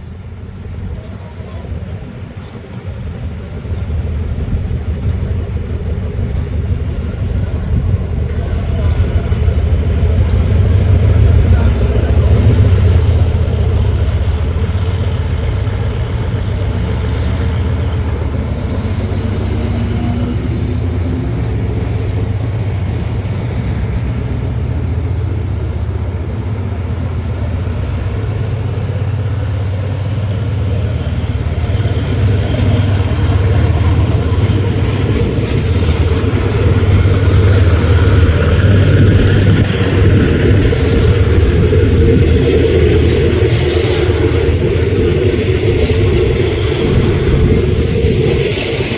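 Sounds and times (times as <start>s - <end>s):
locomotive engine rumbling: 0.0s - 48.9s.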